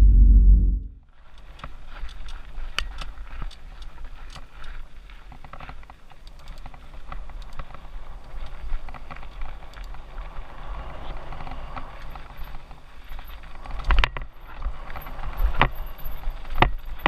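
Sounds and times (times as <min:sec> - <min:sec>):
bike tyres crunching over gravel: 0:01.1 - 0:17.0
bike clicks and rattles: 0:01.2 - 0:17.0.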